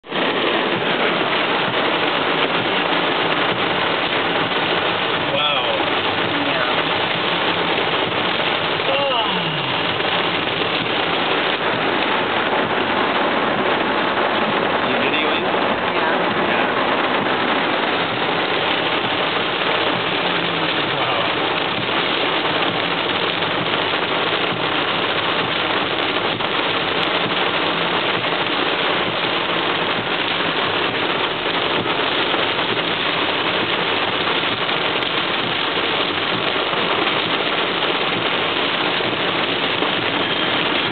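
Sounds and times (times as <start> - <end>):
rain on car roof: 0.0 - 40.9.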